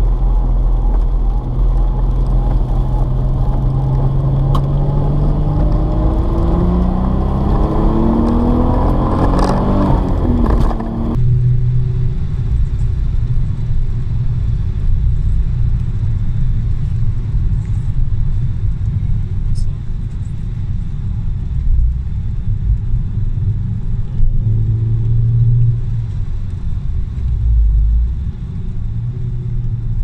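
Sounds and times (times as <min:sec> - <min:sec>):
car engine accelerating: 0:00.0 - 0:17.4, 0:21.4 - 0:30.0
road drone: 0:00.0 - 0:30.0.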